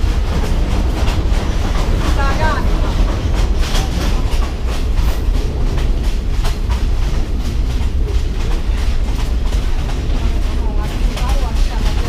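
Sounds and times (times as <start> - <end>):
carriage clacking and rattling: 0.0 - 12.0
train rumbling: 0.0 - 12.0.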